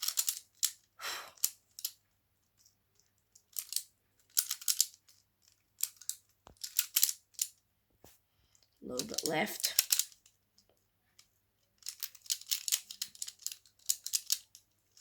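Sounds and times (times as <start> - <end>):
puzzle cube plastic clicks: 0.0 - 2.0, 2.6 - 7.6, 8.5 - 15.0.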